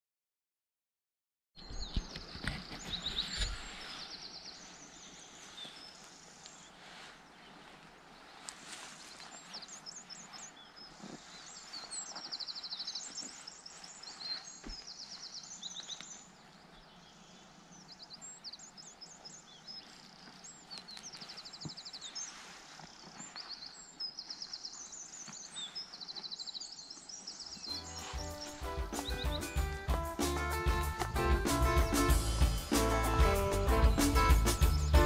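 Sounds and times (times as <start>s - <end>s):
songbird chirps and trills: 1.6s - 35.0s
outdoor background hiss: 2.6s - 35.0s.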